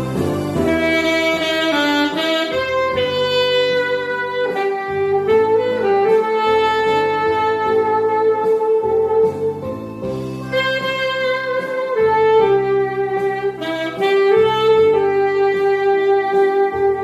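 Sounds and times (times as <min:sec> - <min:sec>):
instrumental backing track: 0:00.0 - 0:17.0
saxophone melody: 0:00.0 - 0:17.0.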